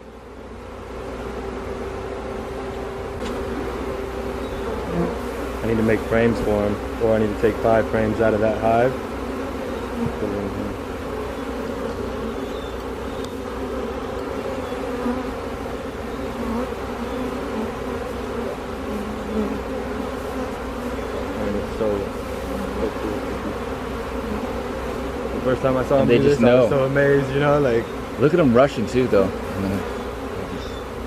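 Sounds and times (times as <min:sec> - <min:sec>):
bee swarm buzzing: 0:00.0 - 0:31.0.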